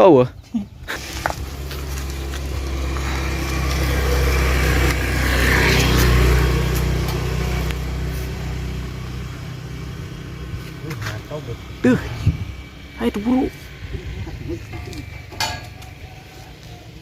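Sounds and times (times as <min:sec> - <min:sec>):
vehicle passing: 0:00.9 - 0:17.0.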